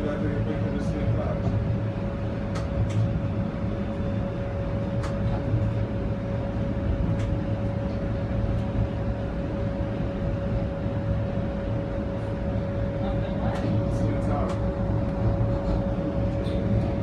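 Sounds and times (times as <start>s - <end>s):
steady mid-pitched whine: 0.0s - 17.0s
streetcar low rumble: 0.0s - 17.0s.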